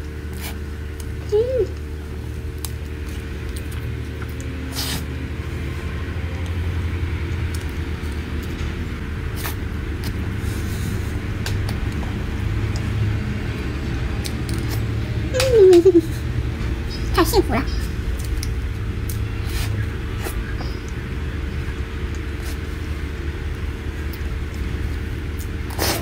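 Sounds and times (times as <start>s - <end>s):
faint hum: 0.0s - 26.0s
low background rumble: 0.0s - 26.0s.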